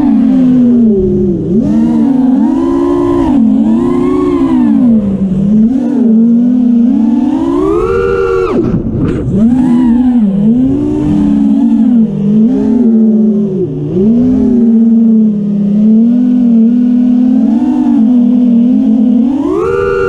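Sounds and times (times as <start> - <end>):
wavering sustained tone: 0.0 - 20.0.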